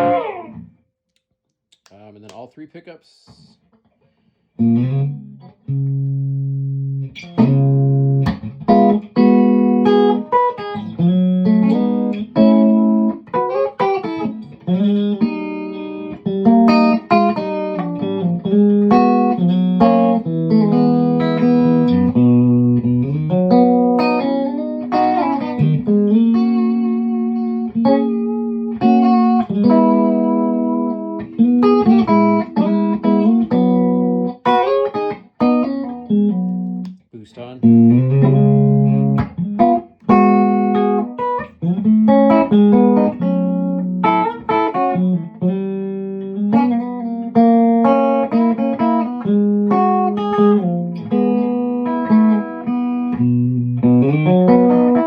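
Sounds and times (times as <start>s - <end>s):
electric guitar notes and chords: 0.0s - 0.7s, 4.6s - 37.0s, 37.6s - 55.0s.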